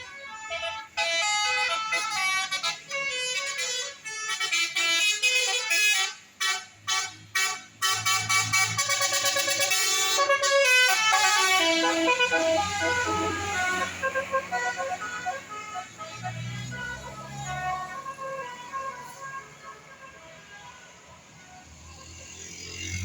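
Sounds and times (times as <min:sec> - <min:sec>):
musical air horn melody: 0:00.0 - 0:20.2
bus engine hum: 0:00.0 - 0:20.7.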